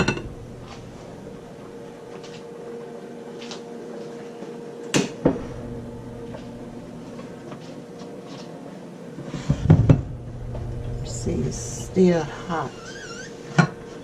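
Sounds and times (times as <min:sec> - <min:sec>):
steady hum: 0:00.0 - 0:03.2, 0:05.0 - 0:14.0.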